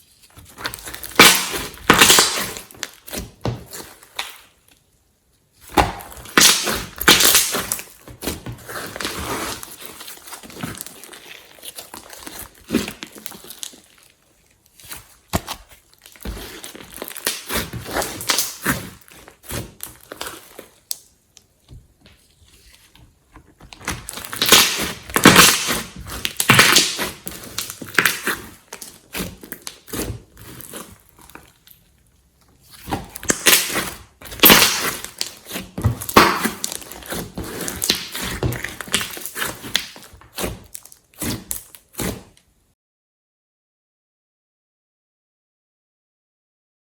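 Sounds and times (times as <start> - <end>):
slime squishing and crackling: 0.1 - 4.6, 5.6 - 21.2, 23.5 - 32.0, 32.6 - 42.4.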